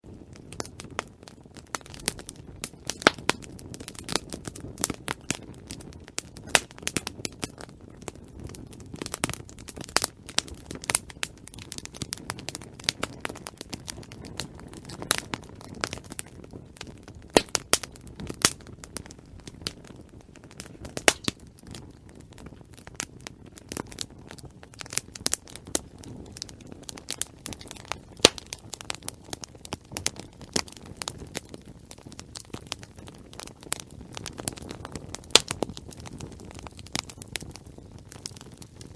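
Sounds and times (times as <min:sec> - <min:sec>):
campfire crackling and popping: 0:00.0 - 0:38.9
rush of flame: 0:00.0 - 0:38.9.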